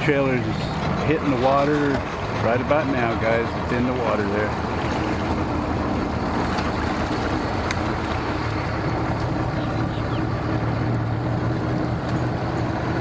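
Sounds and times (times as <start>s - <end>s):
engines idling: 0.0s - 13.0s.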